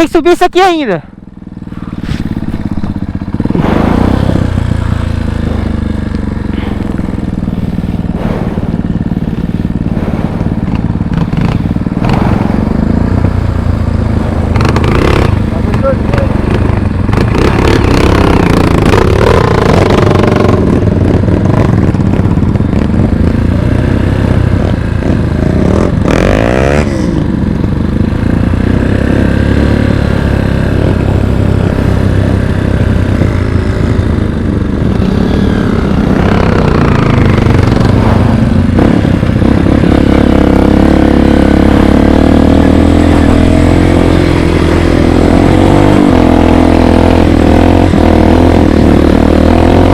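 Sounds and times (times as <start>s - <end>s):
dirt bike engine revving: 1.2s - 49.9s.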